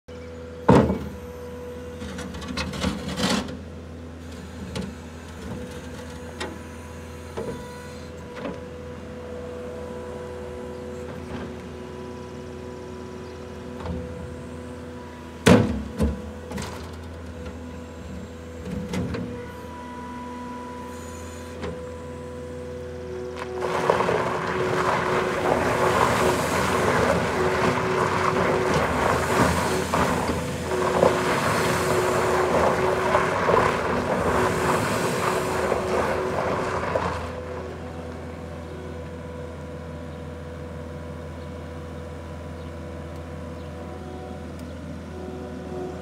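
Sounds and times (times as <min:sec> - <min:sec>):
diesel engine running: 0:00.1 - 0:46.0.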